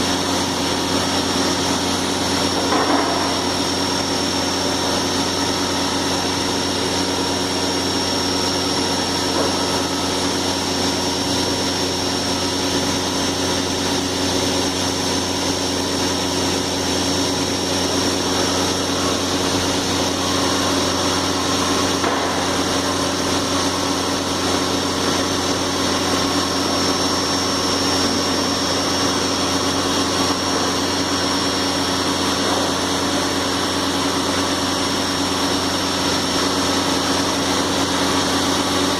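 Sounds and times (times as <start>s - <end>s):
cnc machine humming: 0.0s - 38.9s.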